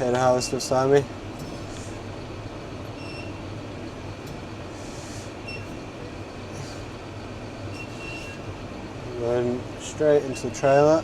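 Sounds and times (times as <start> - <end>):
harvester and tractor rumbling: 0.0 - 11.0.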